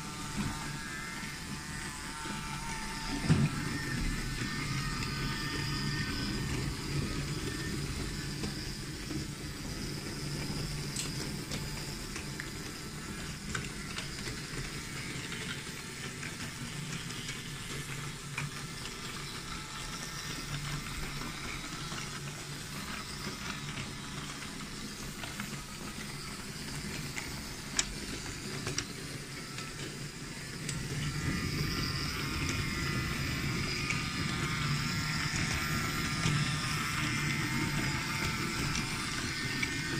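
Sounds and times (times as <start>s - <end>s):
toy train motors whirring: 0.0s - 39.9s.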